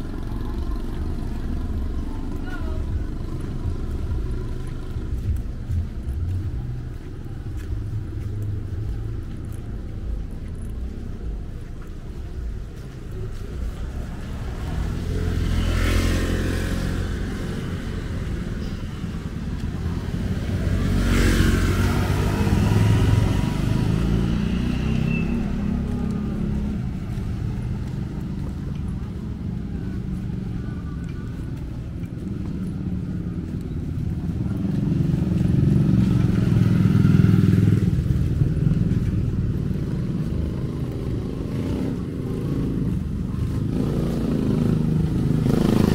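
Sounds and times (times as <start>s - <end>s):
street traffic: 0.0s - 45.9s
vehicles passing close: 0.0s - 45.9s.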